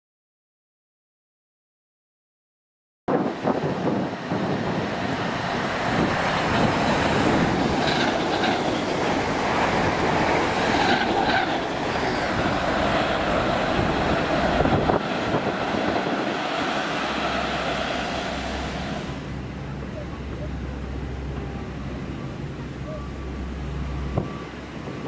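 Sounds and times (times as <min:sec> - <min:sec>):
train wheel-and-rail noise: 0:03.1 - 0:25.0.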